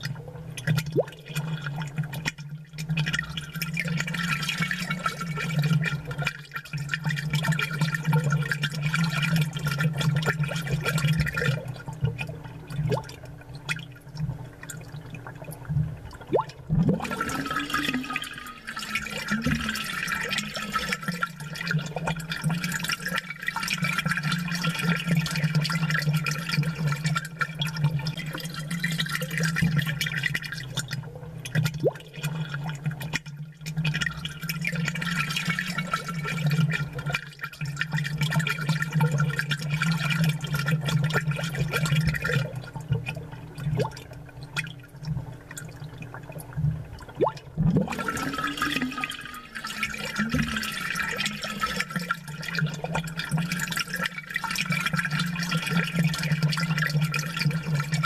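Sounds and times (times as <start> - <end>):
aquarium water bubbling: 0.0 - 58.0.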